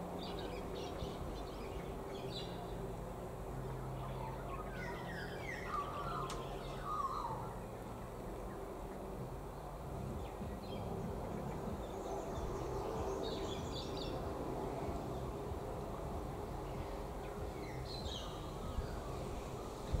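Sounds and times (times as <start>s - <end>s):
birds chirping: 0.0s - 20.0s
low hum: 0.0s - 20.0s.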